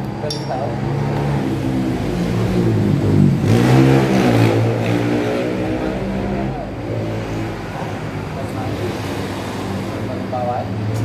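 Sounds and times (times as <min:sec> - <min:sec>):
engine revving: 0:00.8 - 0:11.0.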